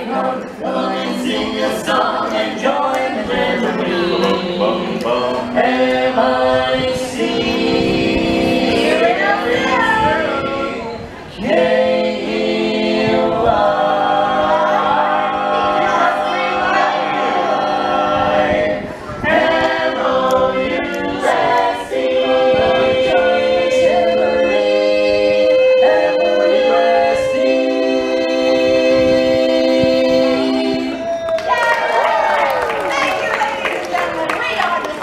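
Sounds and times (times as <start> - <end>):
a cappella group singing harmony: 0.0 - 31.3.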